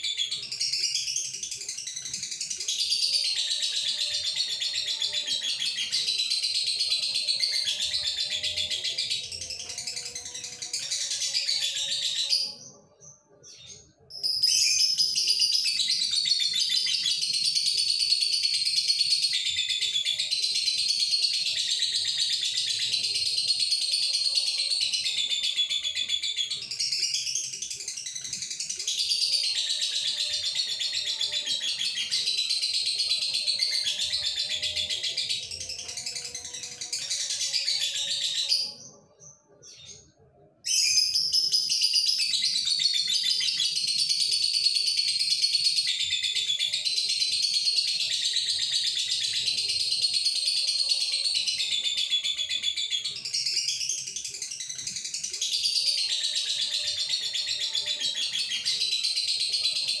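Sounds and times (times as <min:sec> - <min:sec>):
bird chattering song: 0:00.0 - 1:00.0.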